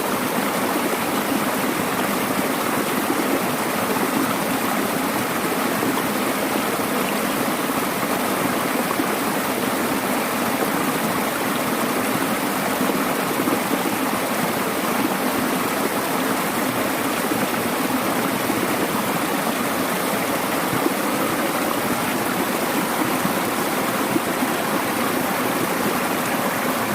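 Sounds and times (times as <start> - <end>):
stream flowing over rocks: 0.0 - 26.9.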